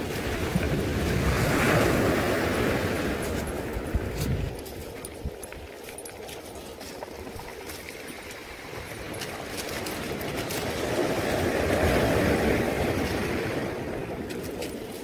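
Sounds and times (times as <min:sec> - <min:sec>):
waves washing on shingle: 0:00.0 - 0:15.0.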